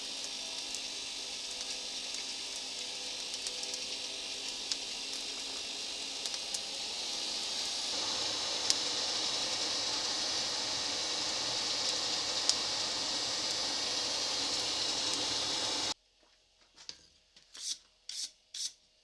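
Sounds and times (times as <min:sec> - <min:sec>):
fire crackles: 0:00.0 - 0:16.0
forge fire hissing: 0:00.0 - 0:16.0.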